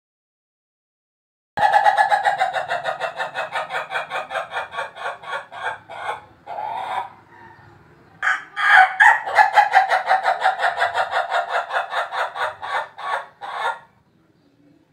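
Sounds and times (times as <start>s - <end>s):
rooster crowing: 1.6s - 13.9s.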